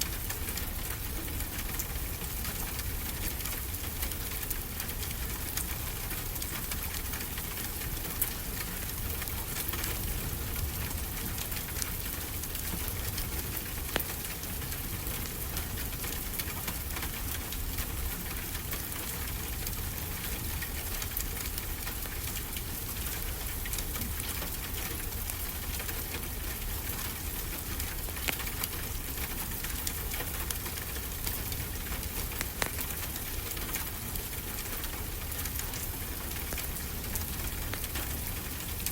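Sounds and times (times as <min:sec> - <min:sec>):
steady rain falling: 0:00.0 - 0:38.9
wood fire crackling: 0:00.0 - 0:38.9.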